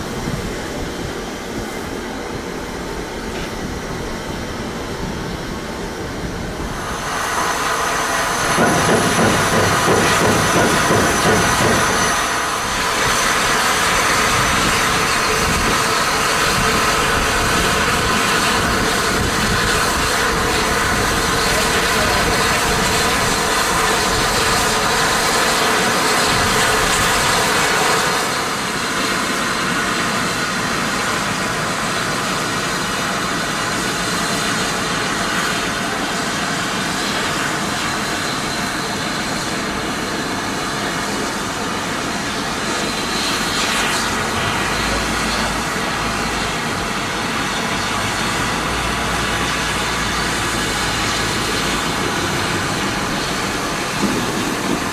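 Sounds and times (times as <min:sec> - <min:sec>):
steam locomotive hissing: 0:00.0 - 0:54.9.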